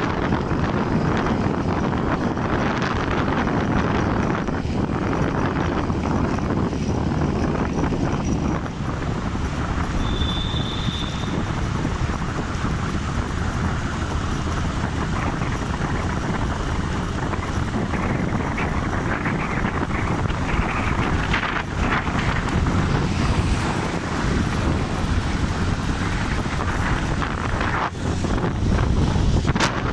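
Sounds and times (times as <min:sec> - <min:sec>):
motorcycle engine: 0:00.0 - 0:29.9
wind rush over microphone: 0:00.0 - 0:29.9.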